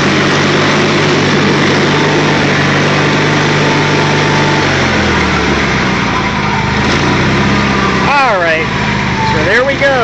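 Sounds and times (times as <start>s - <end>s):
lawn tractor engine running: 0.0s - 10.0s.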